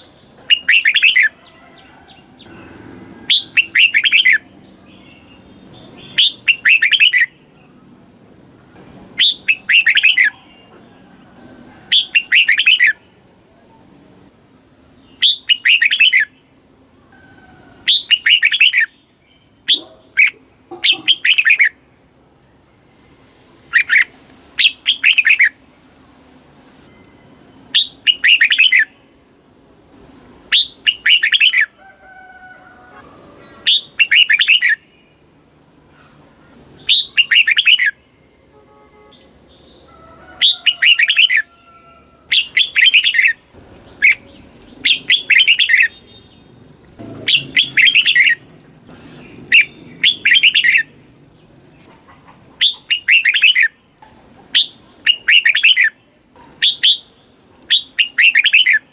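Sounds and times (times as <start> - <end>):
bird singing warbled phrases: 0.0 - 1.4, 2.4 - 10.8, 11.9 - 13.8, 14.4 - 17.1, 17.8 - 21.9, 23.7 - 25.6, 27.0 - 29.2, 30.3 - 31.9, 33.4 - 41.5, 42.2 - 58.9.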